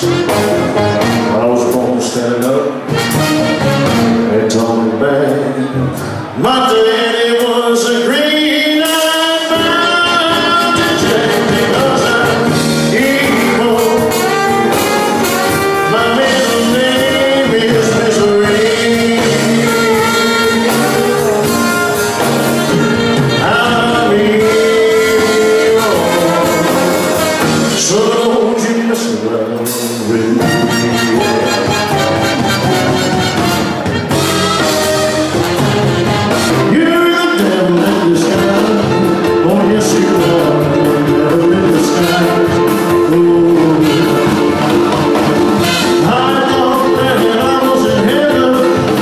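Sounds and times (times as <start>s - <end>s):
live band with brass: 0.0s - 49.0s
person singing: 3.9s - 33.4s, 36.5s - 49.0s.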